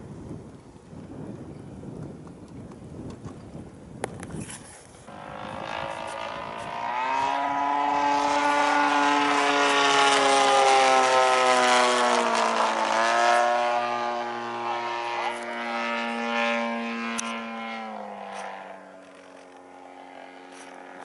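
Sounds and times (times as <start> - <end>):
model aeroplane engine flying past: 0.0 - 21.0.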